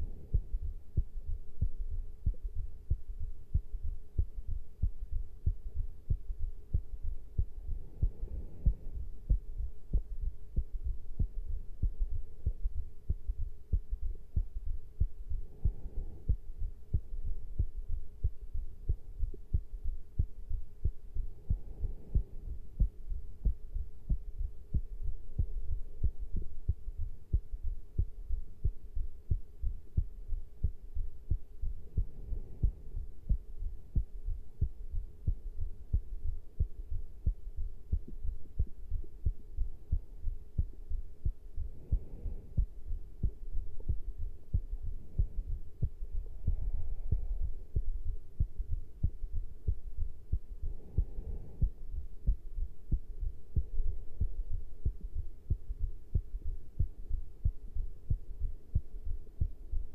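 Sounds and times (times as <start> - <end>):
faint steady hum: 0.0 - 59.9
heartbeat thumps: 0.0 - 59.9.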